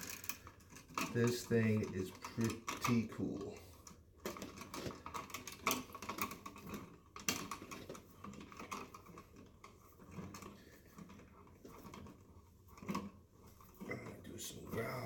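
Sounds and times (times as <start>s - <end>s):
light clicks and clatter: 0.0s - 15.0s.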